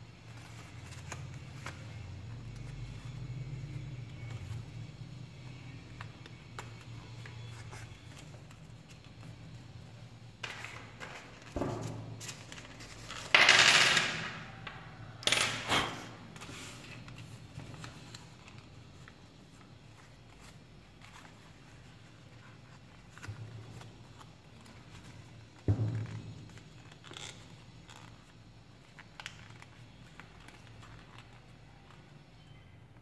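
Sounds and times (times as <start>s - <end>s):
paper bill rustling and crinkling: 0.2s - 13.4s, 16.3s - 32.4s.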